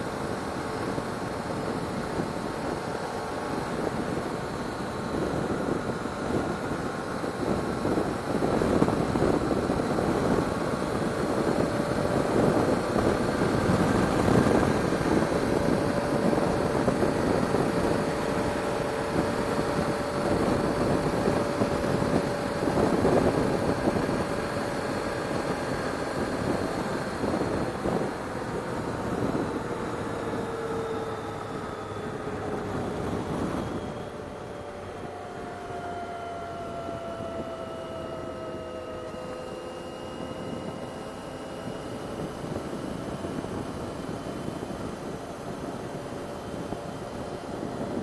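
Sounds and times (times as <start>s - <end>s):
motorcycle engine hum: 0.0s - 48.0s
wind and road noise: 0.0s - 48.0s.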